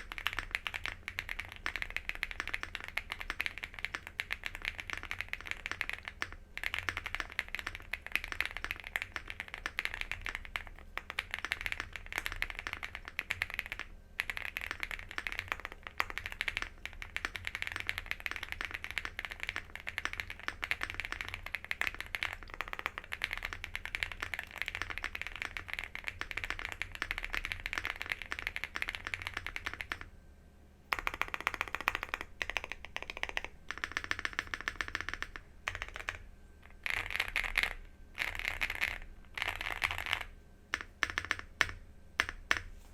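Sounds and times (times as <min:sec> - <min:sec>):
typing on mechanical keyboard: 0:00.0 - 0:30.1, 0:30.9 - 0:42.7.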